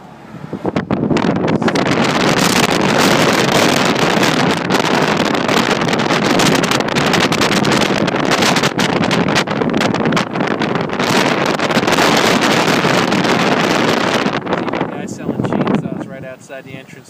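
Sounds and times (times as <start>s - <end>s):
road noise: 0.0s - 17.0s
wind rushing over microphone: 0.0s - 17.0s.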